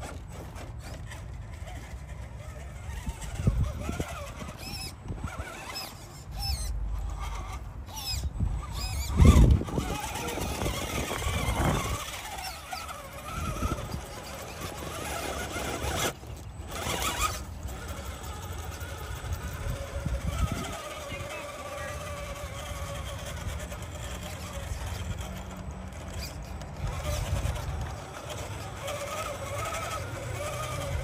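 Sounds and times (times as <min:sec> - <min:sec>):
radio-controlled car whine: 0:00.0 - 0:31.0.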